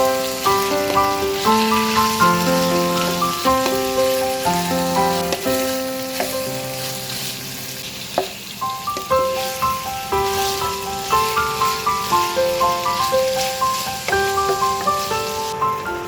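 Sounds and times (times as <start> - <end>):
food sizzling in a pan: 0.0 - 16.0
simple melody background music: 0.0 - 16.0.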